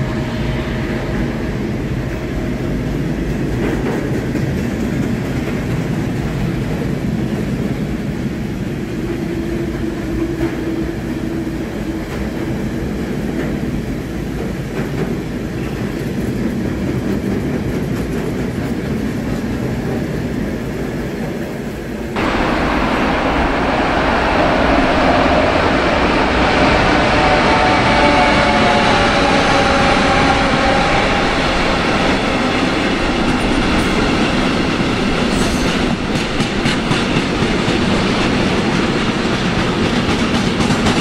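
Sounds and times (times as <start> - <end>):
clickety-clack at rail joints: 0.0 - 22.6, 24.0 - 41.0
electric locomotive whine: 0.0 - 41.0
train wheels rumbling on rails: 0.0 - 41.0.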